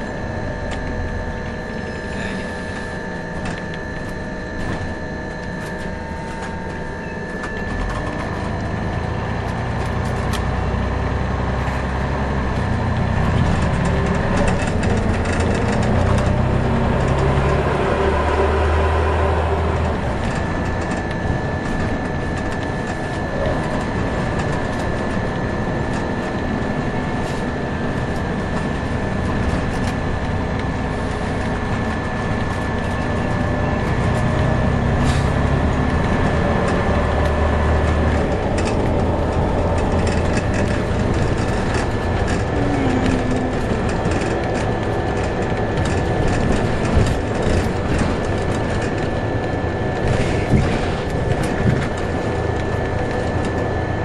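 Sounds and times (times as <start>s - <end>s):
bus diesel engine droning: 0.0s - 54.0s
road noise: 0.0s - 54.0s
steady high whine: 0.0s - 54.0s.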